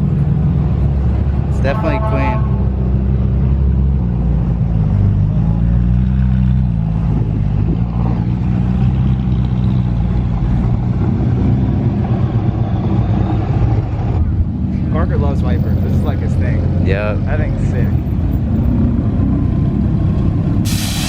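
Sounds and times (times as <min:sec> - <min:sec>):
car engine running at low revs: 0:00.0 - 0:20.6.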